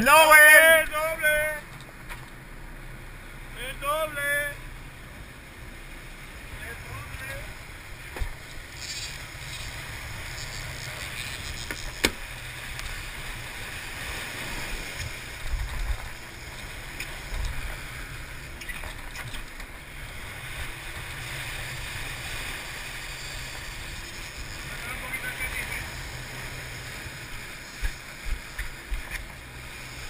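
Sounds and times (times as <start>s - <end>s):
boat engines rumbling: 0.0s - 30.0s
water churning at stern: 3.3s - 30.0s.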